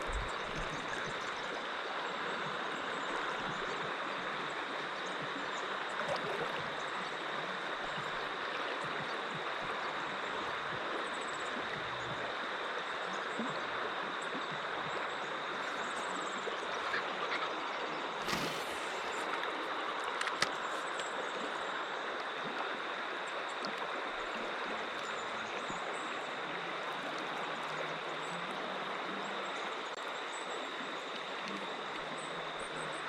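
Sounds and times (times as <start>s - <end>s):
river water running over stones: 0.0s - 33.0s.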